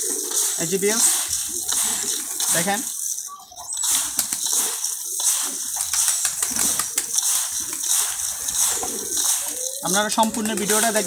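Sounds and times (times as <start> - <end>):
grain rattling as stirred by hand: 0.0 - 11.0.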